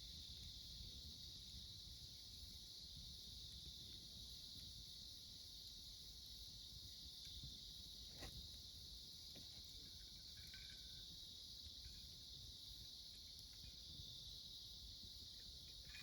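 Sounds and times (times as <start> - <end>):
campfire crackling: 0.0 - 16.0
insects calling: 0.0 - 16.0.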